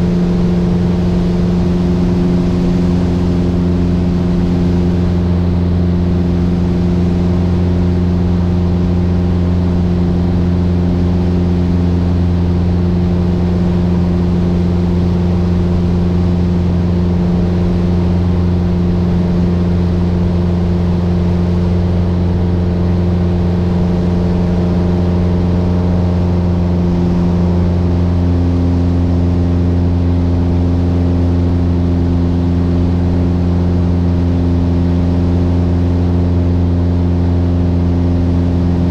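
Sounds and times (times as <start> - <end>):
aircraft engine and propeller drone: 0.0 - 38.9.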